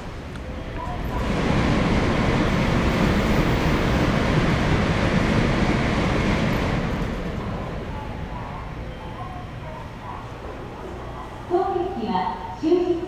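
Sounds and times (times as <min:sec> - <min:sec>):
train rumbling on the line: 0:00.0 - 0:13.0.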